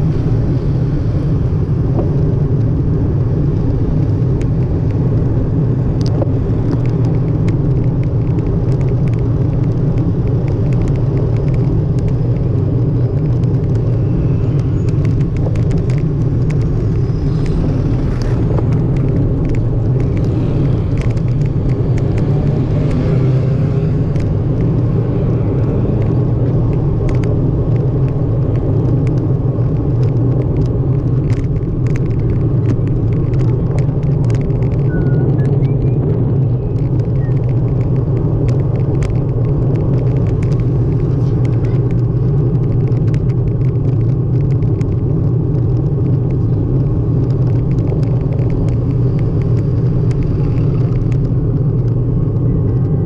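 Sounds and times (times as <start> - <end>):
road noise: 0.0 - 53.0
wind rumble: 0.0 - 53.0
small clicks and rattles: 2.0 - 53.0.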